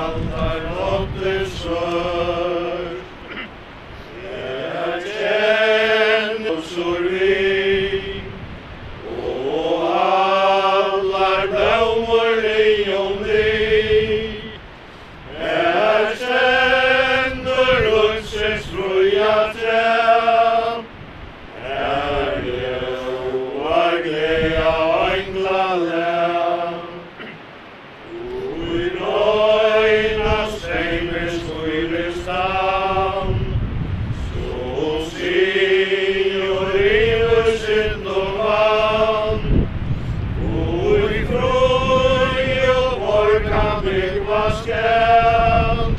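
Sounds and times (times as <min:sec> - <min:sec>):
wind rumbling on microphone: 0:00.0 - 0:27.2, 0:27.8 - 0:45.9
people singing a hymn unaccompanied: 0:00.0 - 0:45.9.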